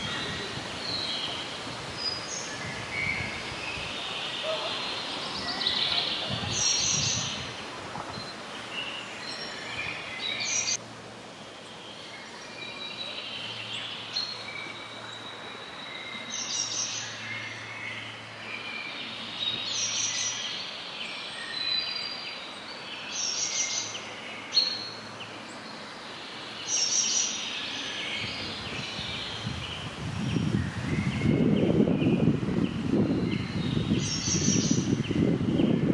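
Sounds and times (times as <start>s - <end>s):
songbirds singing: 0.0s - 10.8s, 11.4s - 35.9s
steady background hiss: 0.0s - 31.3s.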